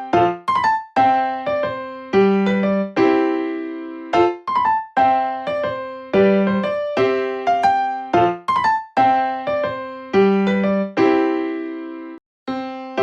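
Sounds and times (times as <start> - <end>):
gentle piano tune: 0.0 - 13.0.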